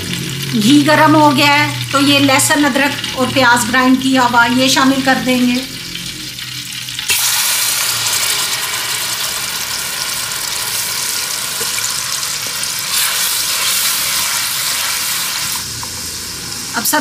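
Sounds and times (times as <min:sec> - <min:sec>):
paste sizzling in hot fat: 0:01.6 - 0:16.9.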